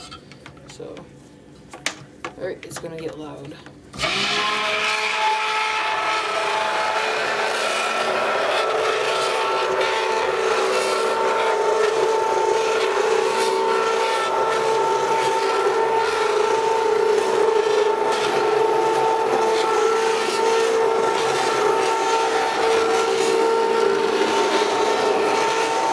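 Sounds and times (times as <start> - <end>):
stick blender motor whine: 3.9 - 25.9
liquid churning: 4.0 - 25.9.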